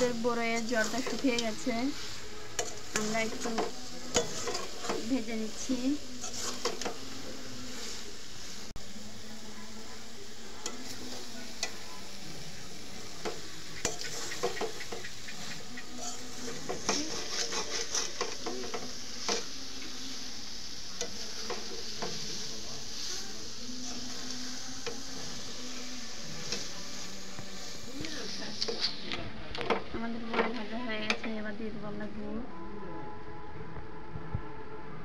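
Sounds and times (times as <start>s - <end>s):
metal spatula scraping a pan: 0.0s - 8.7s, 10.6s - 31.3s
pickle sizzling and frying: 0.0s - 32.3s.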